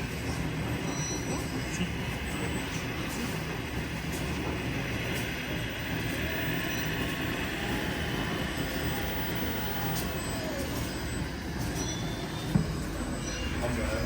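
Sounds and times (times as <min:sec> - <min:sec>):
radio-controlled truck running: 0:00.0 - 0:14.0.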